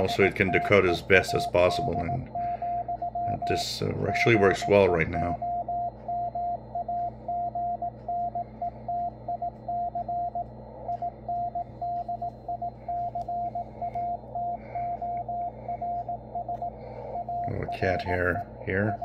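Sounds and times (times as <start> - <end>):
faint radio band noise: 0.0 - 19.0
morse code tone: 0.0 - 19.0.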